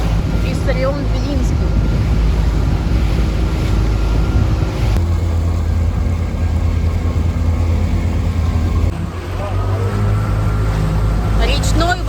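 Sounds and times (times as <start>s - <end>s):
outboard motor humming: 0.0s - 12.0s
water noise: 0.0s - 12.0s
wind: 0.0s - 12.0s.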